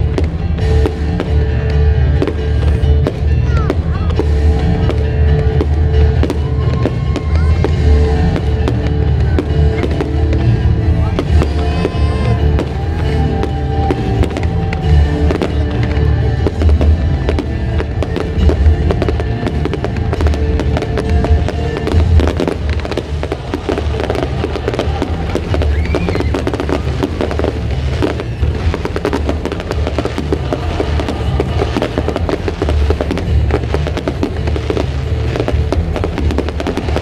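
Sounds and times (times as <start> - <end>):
fireworks crackling and popping: 0.0 - 37.0
fireworks deep thuds: 0.0 - 37.0
music playing: 0.0 - 37.0.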